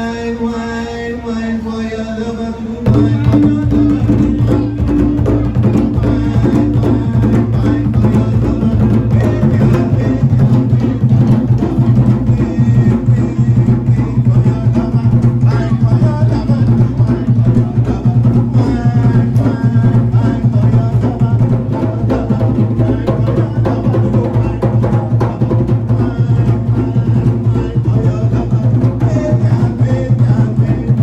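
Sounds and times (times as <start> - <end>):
heavy bass: 2.7 - 31.0
drum and percussion music: 2.8 - 31.0.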